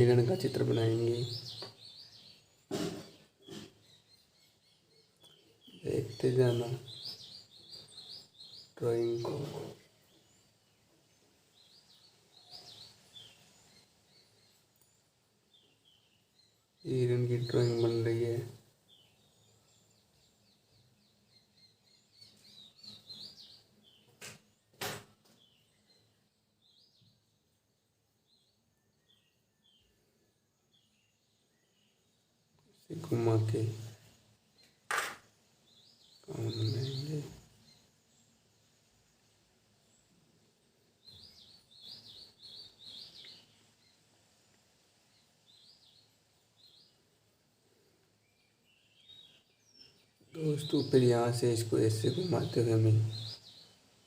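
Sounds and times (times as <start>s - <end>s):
faint birds chirping: 0.0s - 54.0s.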